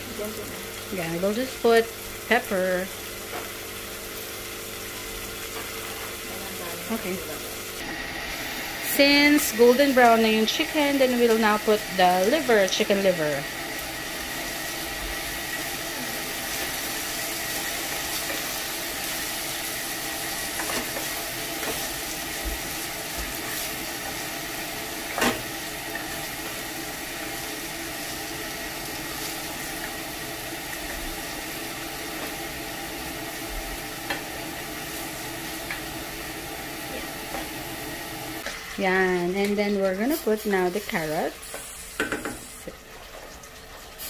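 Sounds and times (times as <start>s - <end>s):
chicken sizzling in a pot: 0.0s - 44.0s.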